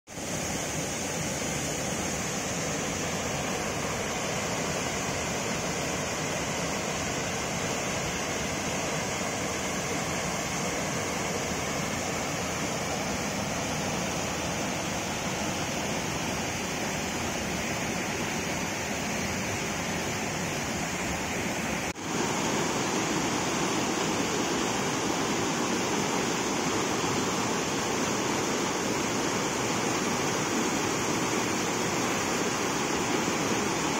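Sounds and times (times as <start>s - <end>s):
river rapids rushing over rocks: 0.1s - 33.9s.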